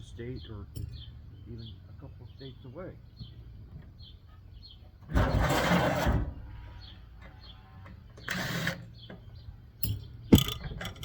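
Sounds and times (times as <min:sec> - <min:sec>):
birds chirping: 0:00.0 - 0:05.5, 0:06.3 - 0:11.0.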